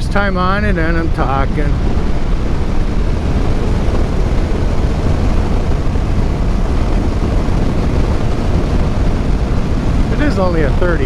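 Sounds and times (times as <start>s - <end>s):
motorcycle engine rumble: 0.0s - 11.0s
wind noise: 0.0s - 11.0s.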